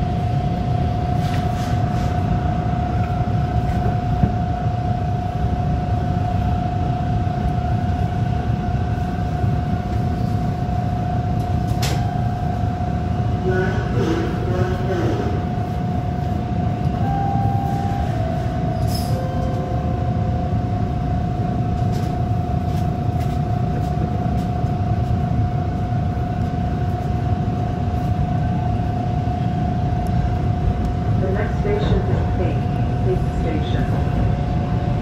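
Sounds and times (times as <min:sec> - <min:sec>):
constant whine: 0:00.0 - 0:35.0
subway train rumble: 0:00.0 - 0:35.0.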